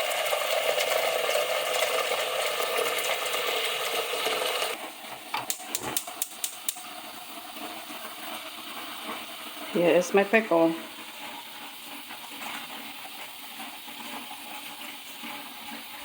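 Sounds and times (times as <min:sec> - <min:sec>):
tap water running into pot: 0:00.0 - 0:16.0.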